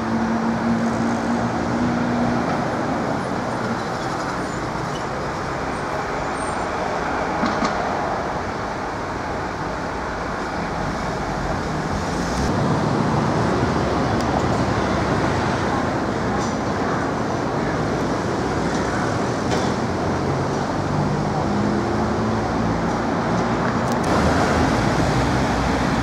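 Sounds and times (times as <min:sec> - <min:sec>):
city street traffic: 0:00.0 - 0:26.0
vehicle humming: 0:00.0 - 0:26.0.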